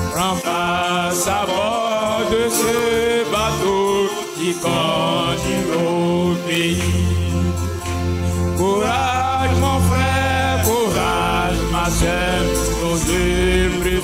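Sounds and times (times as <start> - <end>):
man singing a hymn: 0.0 - 7.6, 8.5 - 14.0
guitar: 0.0 - 14.0
steady bass line: 0.0 - 14.0.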